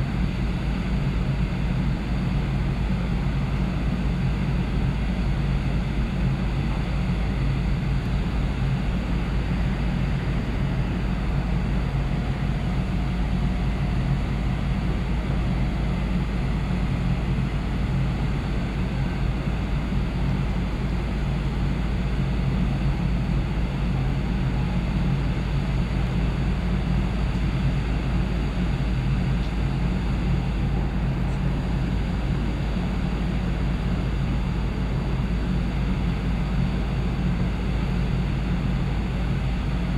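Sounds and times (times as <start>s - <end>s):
ship engines droning: 6.7s - 39.9s.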